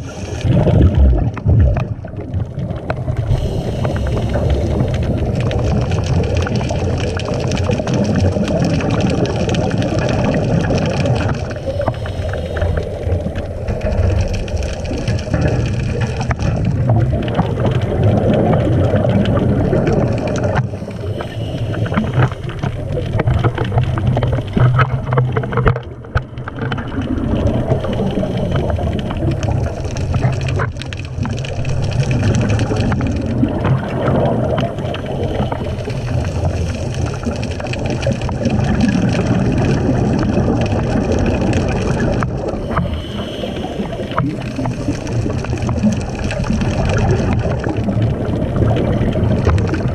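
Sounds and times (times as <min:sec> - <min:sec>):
gurgling water and bubbles: 0:00.0 - 0:49.9
low underwater hum: 0:00.0 - 0:49.9.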